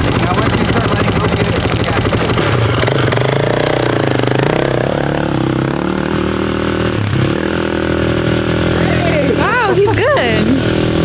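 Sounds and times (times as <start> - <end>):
small vehicle engine revving: 0.0 - 11.0.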